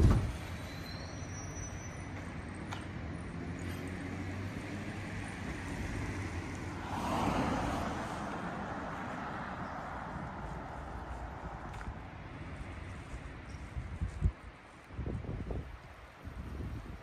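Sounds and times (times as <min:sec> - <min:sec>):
passing vehicle rush: 0:00.0 - 0:15.6.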